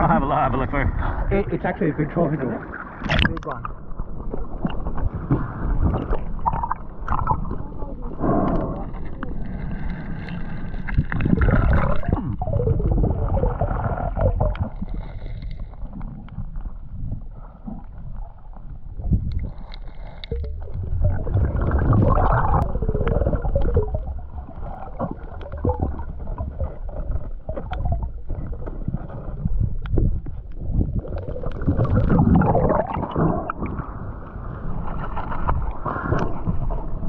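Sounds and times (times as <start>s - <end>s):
underwater gurgling and bubbles: 0.0s - 37.0s.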